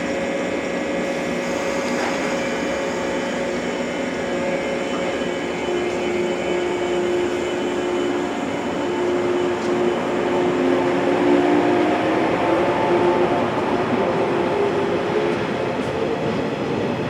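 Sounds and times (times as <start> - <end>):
electric train motors whining: 0.0 - 16.3
train cars rumbling: 0.0 - 17.0.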